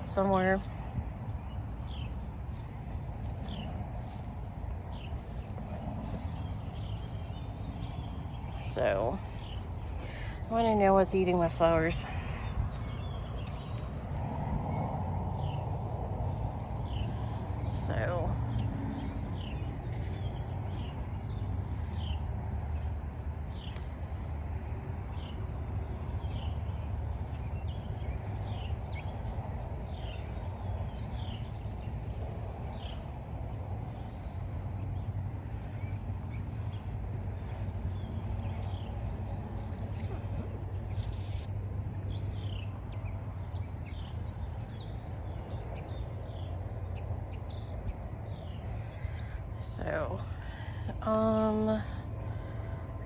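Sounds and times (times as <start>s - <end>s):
small birds chirping: 0.0s - 53.0s
steady low rumble: 0.0s - 53.0s.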